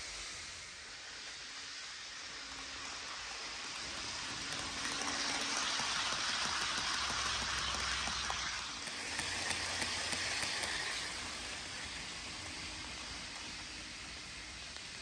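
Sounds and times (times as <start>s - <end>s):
model train wheels hissing: 0.0s - 15.0s.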